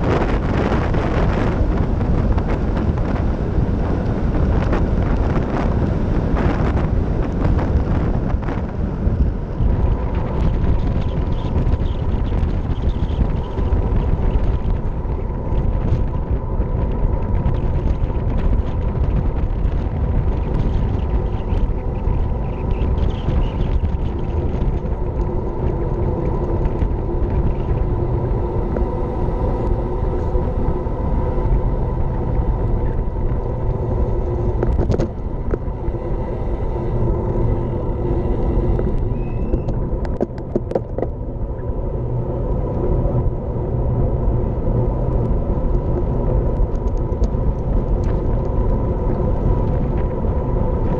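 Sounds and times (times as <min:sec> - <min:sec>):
faint steady whine: 0:00.0 - 0:50.9
wind rushing over microphone: 0:00.0 - 0:50.9.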